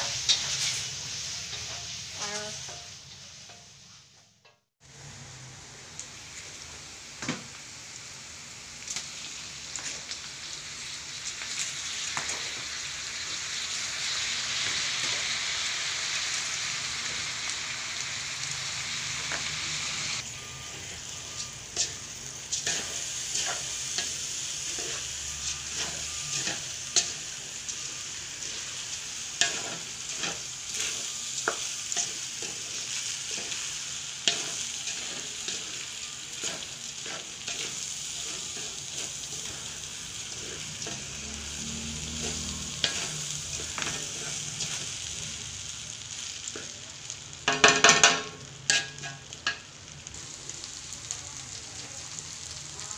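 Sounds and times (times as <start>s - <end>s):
chicken sizzling in oil: 0.0s - 52.9s.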